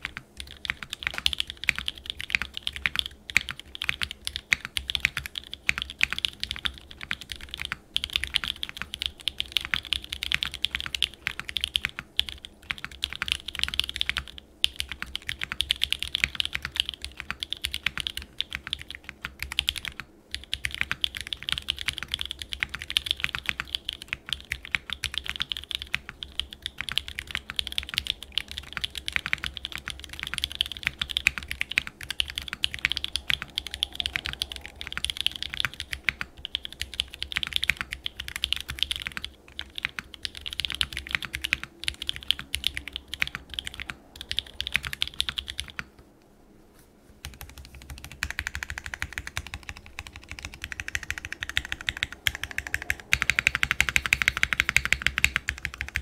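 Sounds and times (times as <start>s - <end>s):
fast mechanical keyboard typing: 0.0s - 45.9s, 47.2s - 56.0s.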